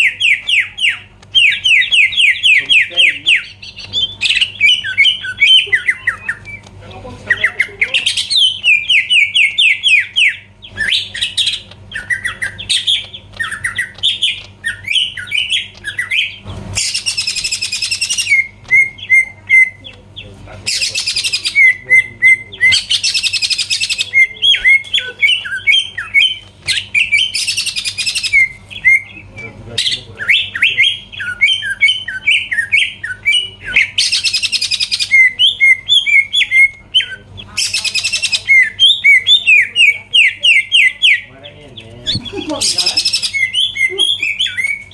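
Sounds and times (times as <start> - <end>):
bird chirping song: 0.0 - 44.9.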